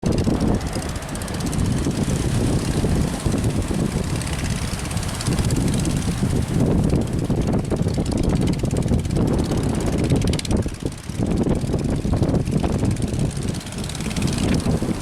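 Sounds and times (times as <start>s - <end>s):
boat engines running: 0.0s - 15.0s
wind buffeting microphone: 0.0s - 15.0s.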